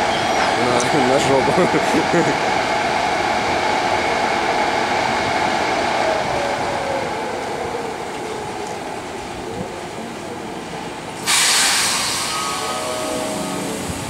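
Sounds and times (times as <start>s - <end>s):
locomotive machinery hum: 0.0s - 14.0s.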